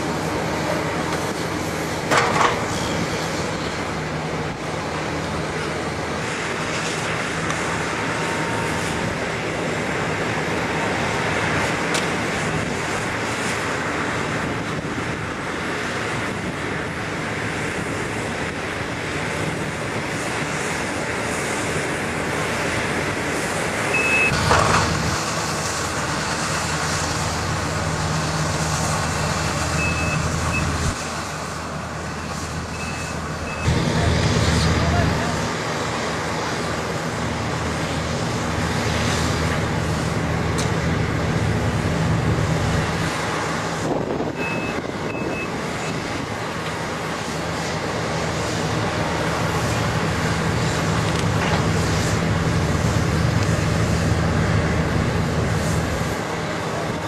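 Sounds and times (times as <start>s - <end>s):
heavy vehicle engine running: 0.0s - 57.0s
road traffic noise: 0.0s - 57.0s.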